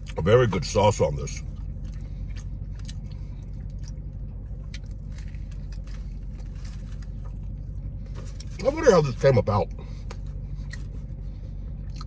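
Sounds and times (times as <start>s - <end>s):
car interior low hum: 0.0s - 12.0s.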